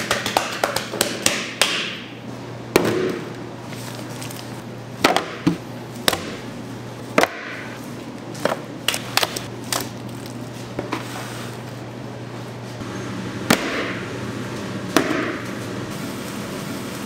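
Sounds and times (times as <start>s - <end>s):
steady low hum: 0.9s - 17.0s.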